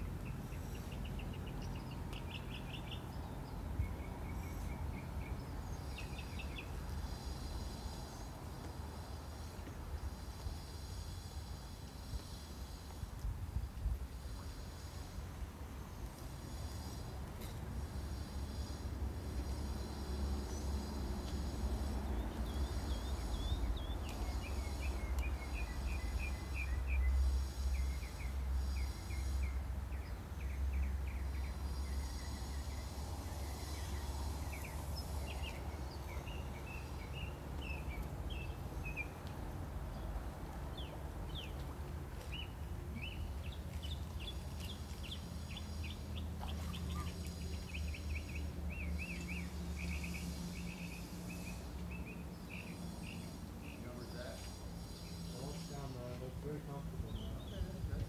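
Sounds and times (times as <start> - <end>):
small birds chirping: 0.0 - 13.0, 14.2 - 58.0.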